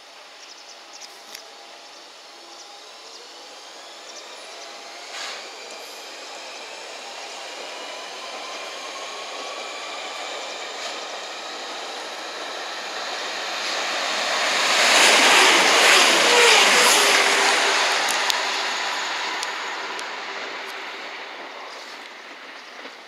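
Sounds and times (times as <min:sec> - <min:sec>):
diesel train passing at speed: 0:00.0 - 0:23.0.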